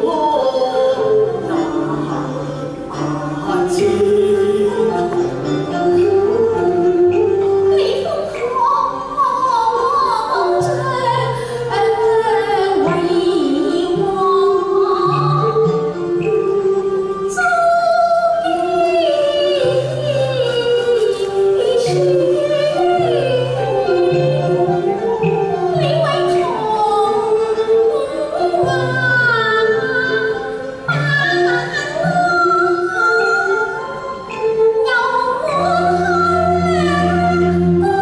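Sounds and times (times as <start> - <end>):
opera ensemble accompaniment: 0.0 - 38.0
opera singing: 0.0 - 38.0.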